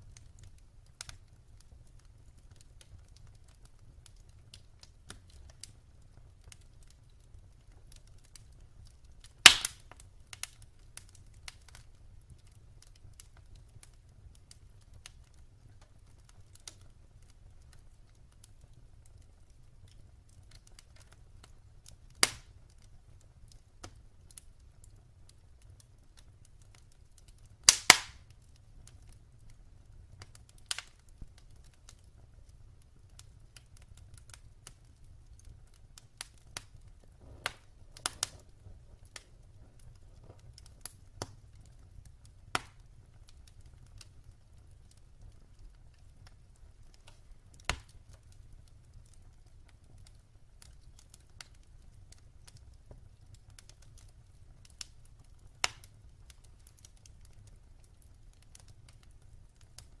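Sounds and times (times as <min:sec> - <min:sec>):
wood fire crackling and popping: 0:00.0 - 1:00.0.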